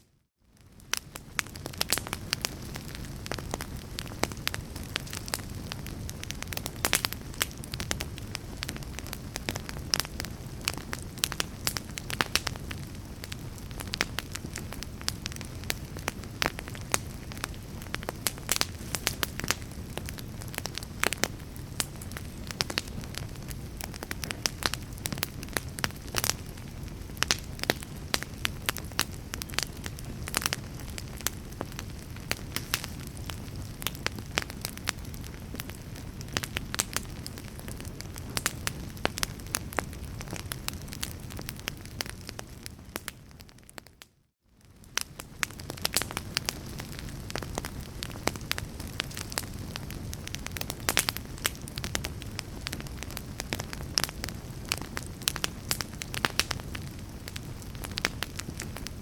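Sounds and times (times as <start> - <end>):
fire crackling and popping: 0.4 - 59.0.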